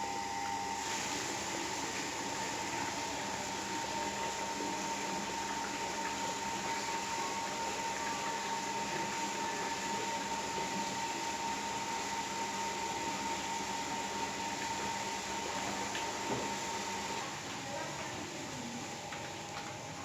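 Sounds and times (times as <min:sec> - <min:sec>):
machine hum and whir: 0:00.0 - 0:17.3.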